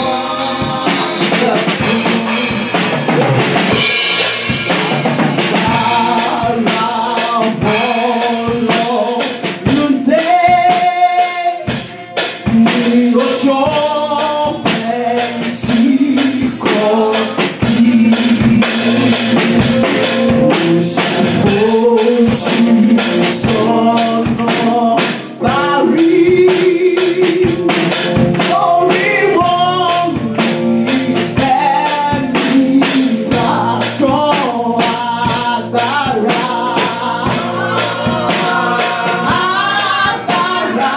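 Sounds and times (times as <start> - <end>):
women singing worship song: 0.0 - 19.7, 20.4 - 40.9
steady drum beat: 0.0 - 40.9.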